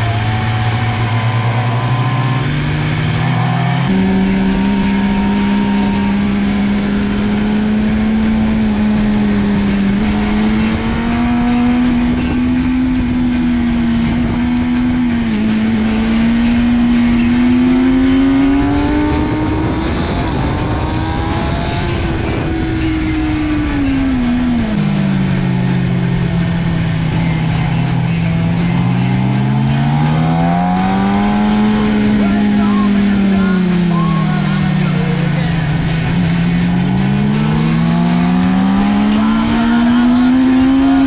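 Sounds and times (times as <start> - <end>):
wind rush: 0.0 - 34.8
faint rock music: 0.0 - 41.0
motorcycle engine revving: 0.0 - 41.0.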